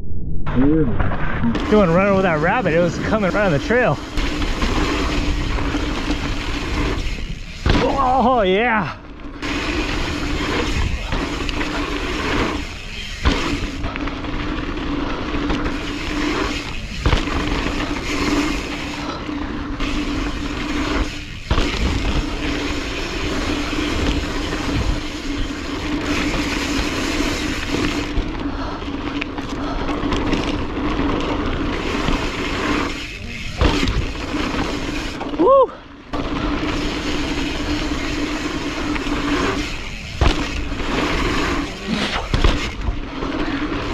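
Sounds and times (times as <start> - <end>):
wind and tyre noise: 0.0 - 43.9
bike rattling: 1.0 - 43.9.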